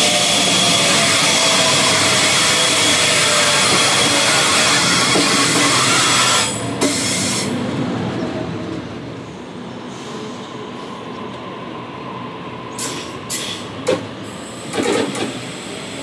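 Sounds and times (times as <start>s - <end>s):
train passing: 0.0s - 16.0s.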